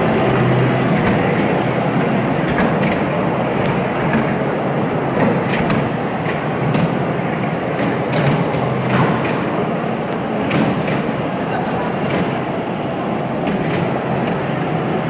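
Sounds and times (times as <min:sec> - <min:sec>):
train wheels clicking on rail joints: 0:00.0 - 0:15.0.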